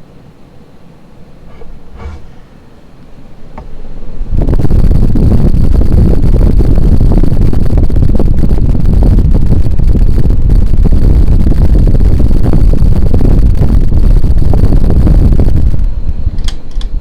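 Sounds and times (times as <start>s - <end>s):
ceiling fan wind buffeting microphone: 0.0s - 17.0s.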